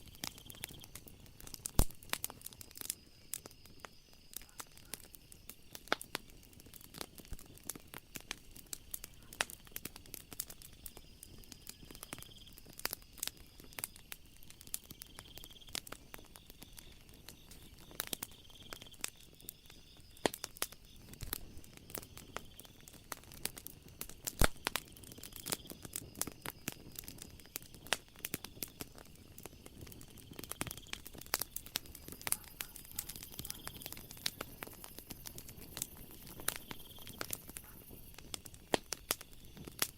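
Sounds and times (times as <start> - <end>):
night insects chirring: 0.0 - 39.9
wood fire crackling: 0.0 - 39.9.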